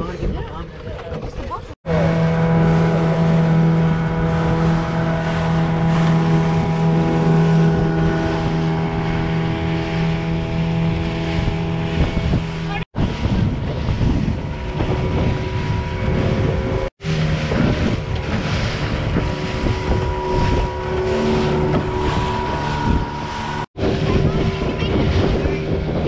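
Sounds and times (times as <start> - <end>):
motorboat engine running: 0.0 - 26.0
water splashing along hull: 0.0 - 26.0
wind buffeting microphone: 0.0 - 26.0.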